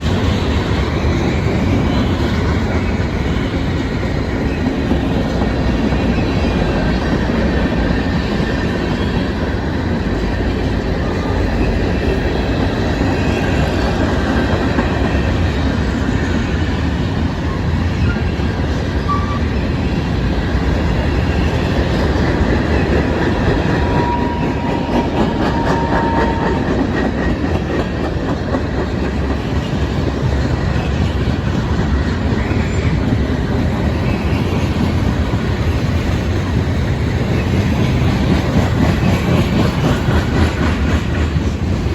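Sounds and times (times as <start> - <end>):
freight train rolling past: 0.0 - 41.9.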